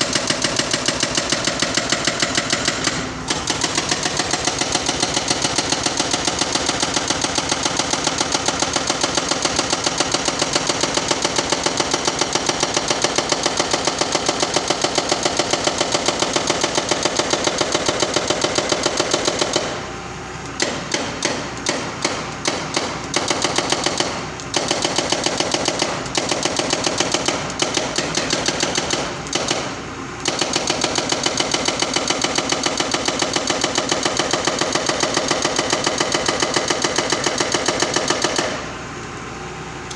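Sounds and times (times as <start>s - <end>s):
hydraulic breaker hammering: 0.0s - 38.8s
excavator engine running: 0.0s - 39.9s.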